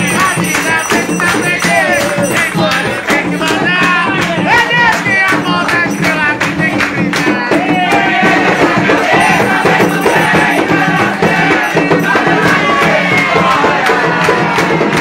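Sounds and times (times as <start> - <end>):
percussion with tambourine and shaker: 0.0 - 15.0
person singing: 0.0 - 15.0.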